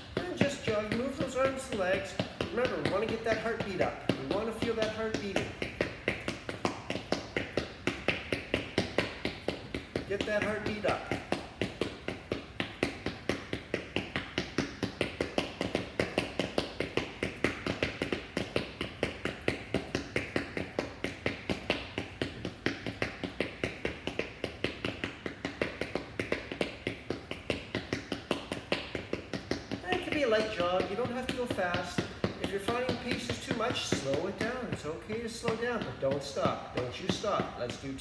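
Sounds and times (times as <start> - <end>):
shoes tapping on hard floor: 0.0 - 38.0.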